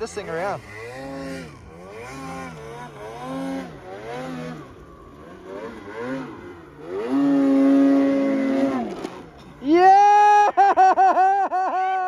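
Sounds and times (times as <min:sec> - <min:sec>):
snowmobile engine revving: 0:00.0 - 0:11.8.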